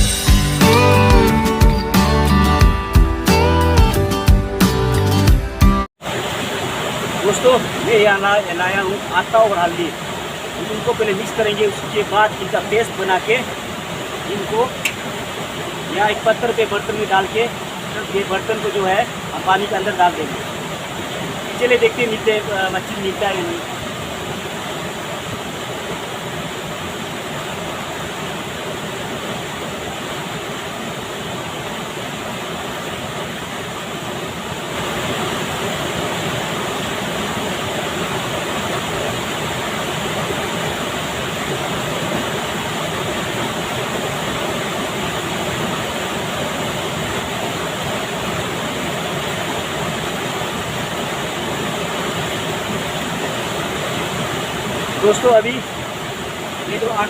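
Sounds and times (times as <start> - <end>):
river water rushing: 6.0 - 57.0.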